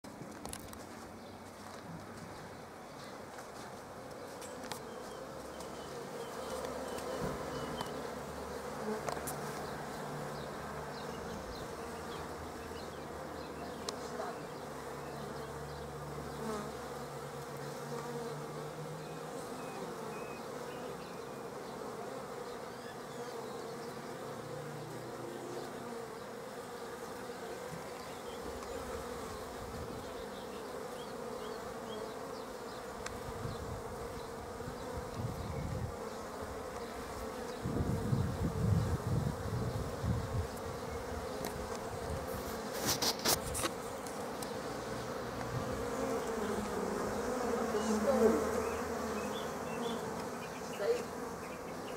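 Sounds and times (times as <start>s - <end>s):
honeybees buzzing: 0.1s - 51.9s.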